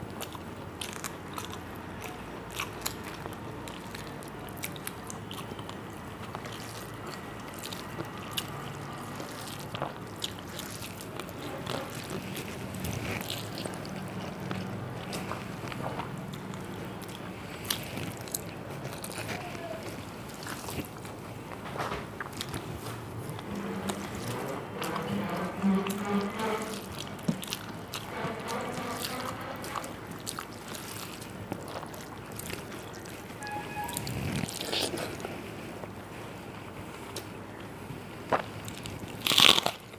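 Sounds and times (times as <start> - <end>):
steady low hum: 0.0 - 39.1
eating and chewing: 0.0 - 39.9.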